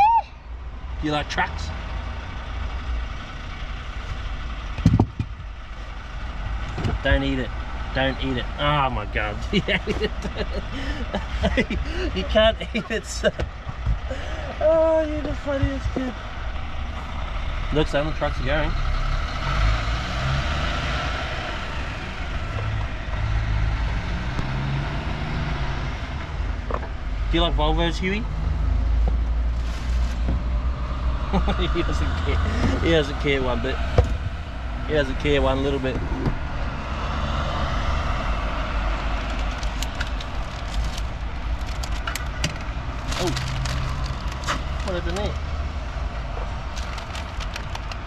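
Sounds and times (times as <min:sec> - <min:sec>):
truck diesel engines driving past: 0:00.0 - 0:29.6, 0:30.4 - 0:48.0
deep traffic rumble: 0:00.0 - 0:48.0
road noise: 0:00.0 - 0:48.0.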